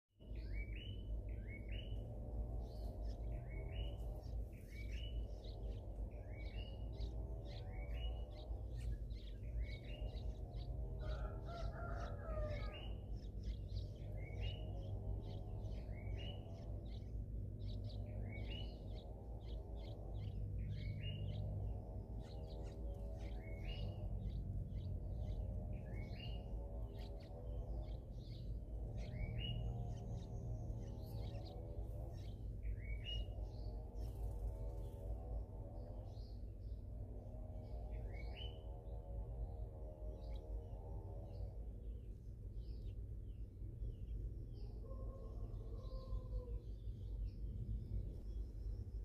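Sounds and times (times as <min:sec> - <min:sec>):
small birds chirping: 0:00.2 - 0:49.0
steady low hum: 0:00.2 - 0:49.0.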